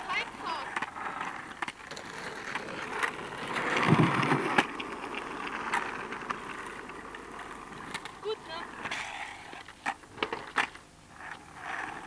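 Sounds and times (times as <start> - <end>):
skateboard clacking: 0.0 - 12.0
skateboard wheels rolling on asphalt: 0.0 - 12.0.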